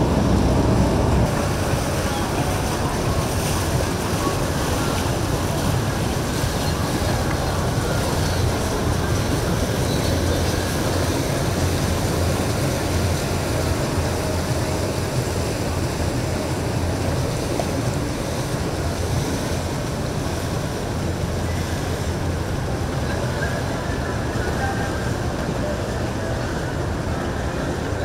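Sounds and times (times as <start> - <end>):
boat engines rumbling: 0.0 - 28.0
water washing: 0.0 - 28.0.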